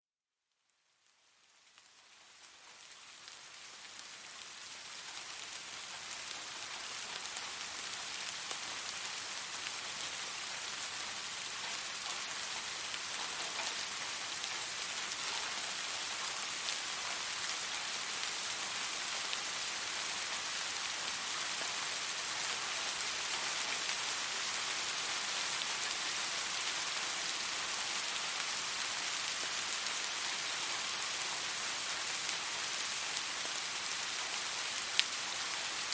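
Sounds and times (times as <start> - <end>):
steady rain falling: 0.6 - 35.9.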